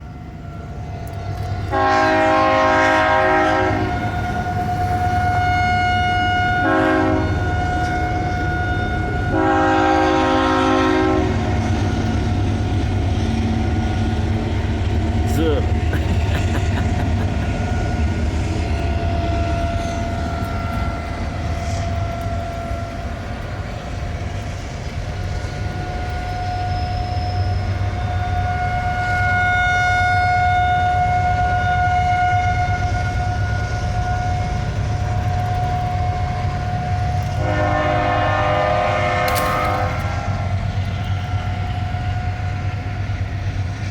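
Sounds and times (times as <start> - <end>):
tornado siren wailing: 0.2 - 43.1.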